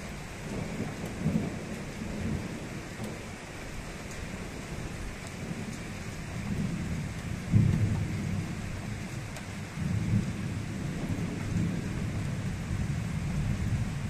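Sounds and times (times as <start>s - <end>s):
thunder rolling: 0.0s - 3.5s, 4.2s - 14.0s
rain hiss: 0.0s - 14.0s.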